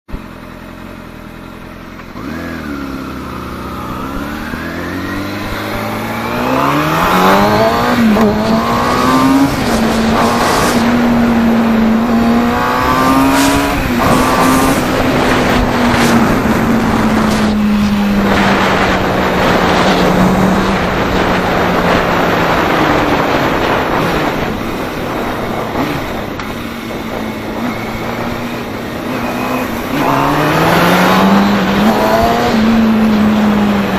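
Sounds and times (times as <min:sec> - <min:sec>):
motorcycle engine accelerating: 0:00.1 - 0:33.9
rushing wind noise: 0:03.6 - 0:33.9.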